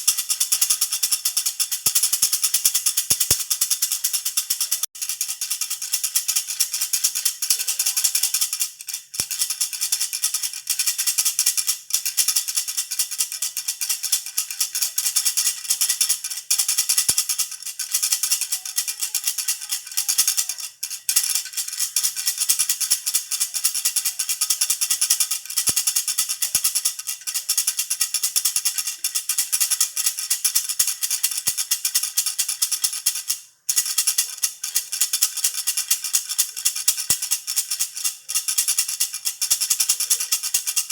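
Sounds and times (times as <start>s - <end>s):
baby rattle shaken: 0.0s - 40.9s.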